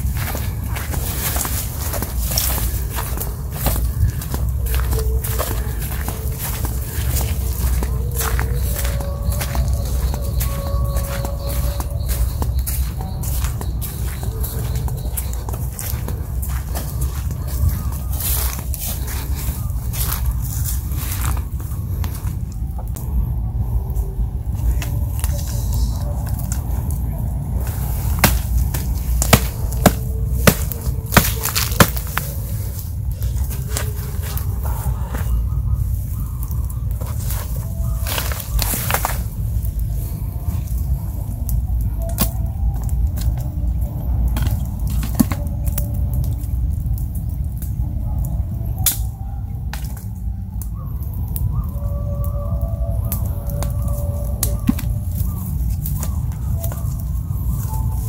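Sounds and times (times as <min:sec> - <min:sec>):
campfire crackling: 0:00.0 - 0:58.0
low rumble: 0:00.0 - 0:58.0.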